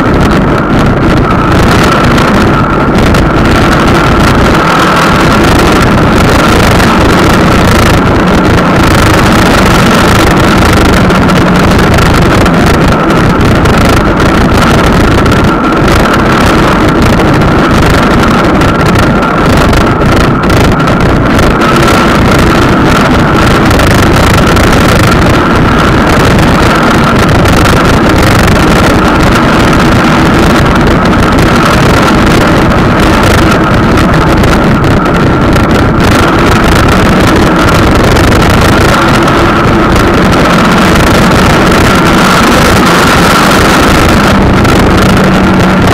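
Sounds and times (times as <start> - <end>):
steady whine: 0.0 - 45.9
vehicle drone: 0.0 - 45.9
wind on microphone: 0.0 - 45.9.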